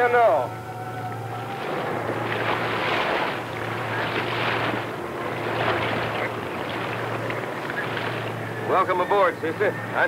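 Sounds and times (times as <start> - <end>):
steady low hum: 0.0 - 10.0
sea water washing against boats: 1.0 - 10.0.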